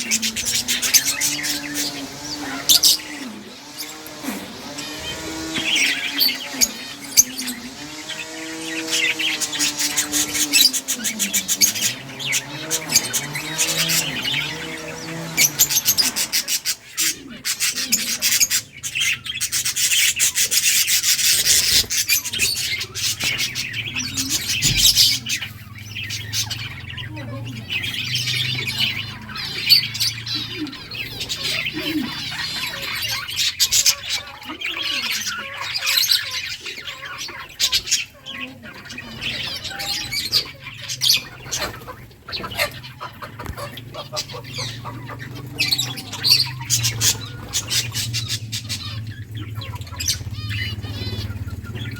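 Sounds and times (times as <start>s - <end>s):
budgerigars chirping and chattering: 0.0s - 51.9s.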